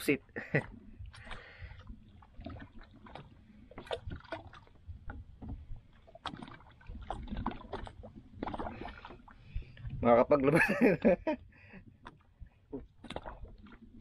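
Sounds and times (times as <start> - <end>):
water sloshing against boat hull: 0.0 - 14.0.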